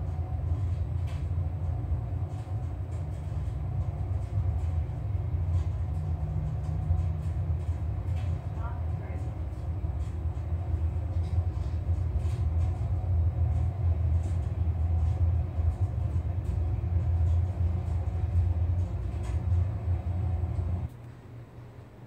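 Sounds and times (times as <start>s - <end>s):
centrifuge rumbling: 0.0s - 20.9s.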